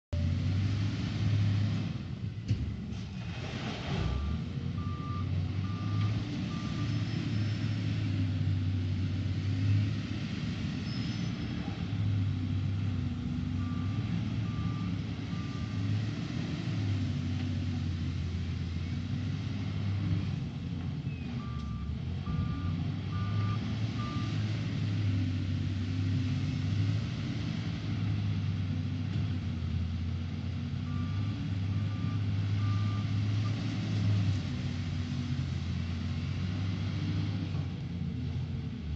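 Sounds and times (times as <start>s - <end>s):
wheel loader diesel engine: 0.0s - 38.9s.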